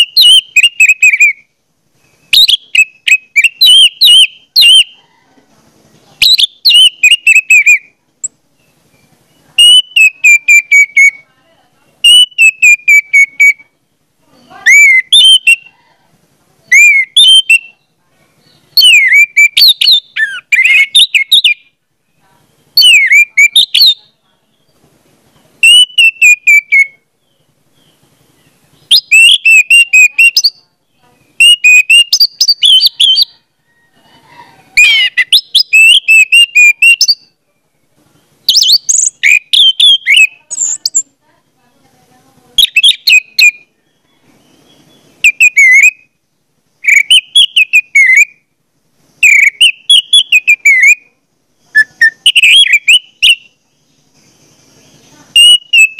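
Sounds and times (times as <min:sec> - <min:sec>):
songbird singing whistled notes: 0:00.0 - 0:41.9, 0:42.6 - 0:46.2, 0:46.8 - 0:48.5, 0:49.2 - 0:55.9.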